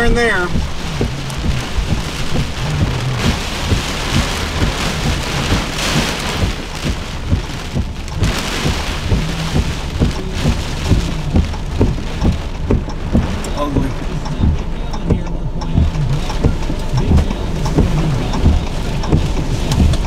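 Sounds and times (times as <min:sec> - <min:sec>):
drops thudding near microphone: 0:00.0 - 0:20.0
heavy rain: 0:00.0 - 0:20.0.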